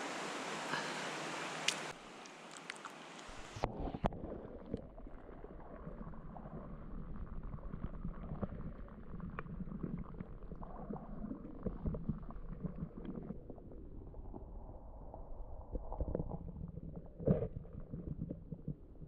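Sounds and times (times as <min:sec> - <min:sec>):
muffled underwater water rumble: 0:03.4 - 0:19.0.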